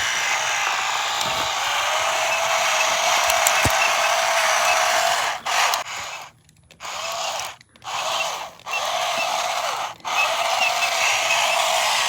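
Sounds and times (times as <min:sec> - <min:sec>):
toy car motor and gears whirring: 0:00.0 - 0:12.0.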